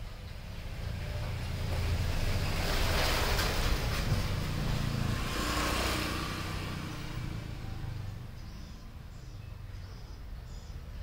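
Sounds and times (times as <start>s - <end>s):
vehicle passing by: 0.4s - 11.0s.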